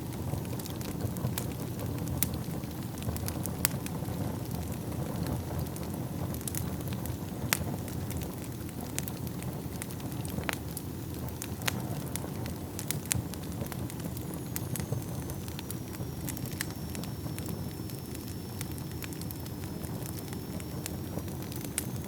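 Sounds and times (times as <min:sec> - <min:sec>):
fire crackles and pops: 0:00.0 - 0:22.0
flames rumbling: 0:00.0 - 0:22.0.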